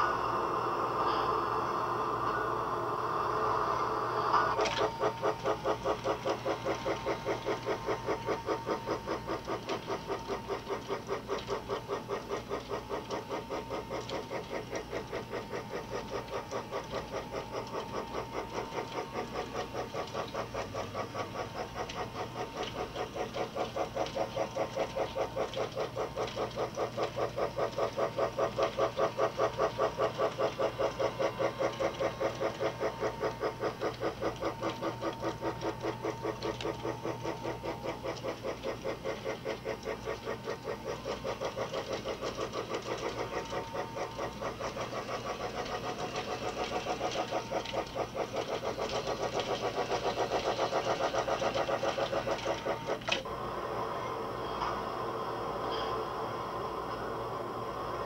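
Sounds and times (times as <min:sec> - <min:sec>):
toy train chugging: 0:00.0 - 0:53.3
toy train motor hum: 0:00.0 - 0:58.0.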